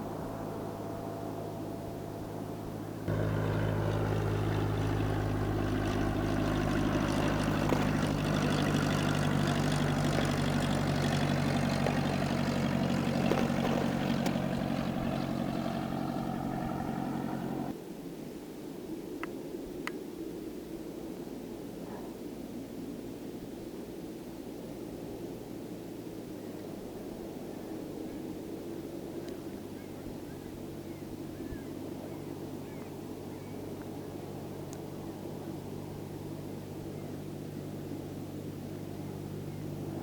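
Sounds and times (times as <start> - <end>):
propeller plane engine droning: 0.0 - 17.8, 21.6 - 40.0.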